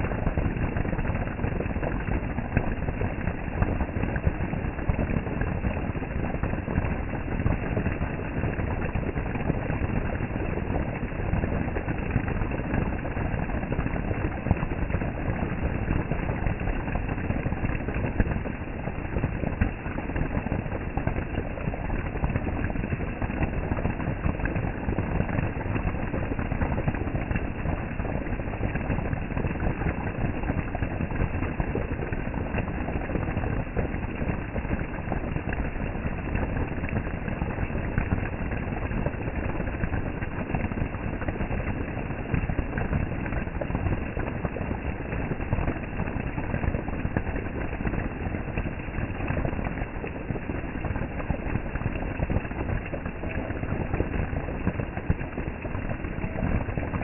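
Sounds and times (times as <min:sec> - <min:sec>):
heavy rain pouring: 0:00.1 - 0:57.0.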